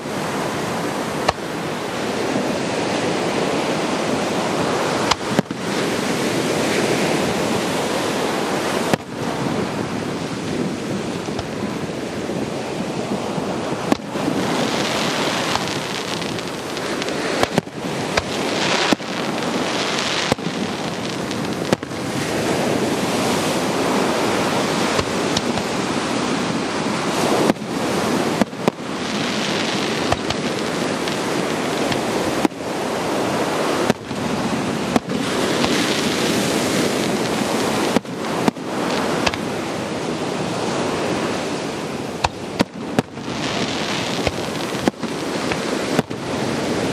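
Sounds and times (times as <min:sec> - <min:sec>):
fireworks bangs: 0:00.0 - 0:02.5, 0:03.4 - 0:46.9
ocean surf: 0:00.0 - 0:46.9.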